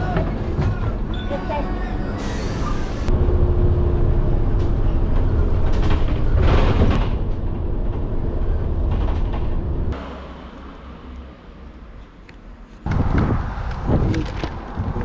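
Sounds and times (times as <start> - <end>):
vehicle rumbling in motion: 0.0 - 15.0.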